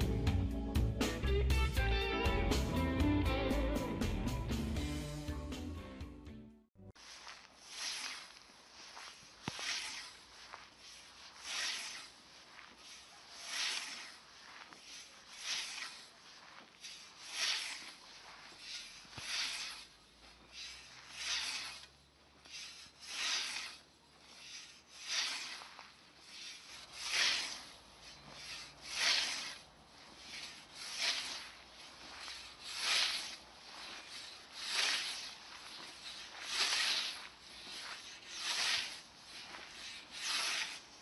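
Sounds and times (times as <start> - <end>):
grass rustling: 6.9 - 41.0
scythe swishing through grass: 7.0 - 41.0.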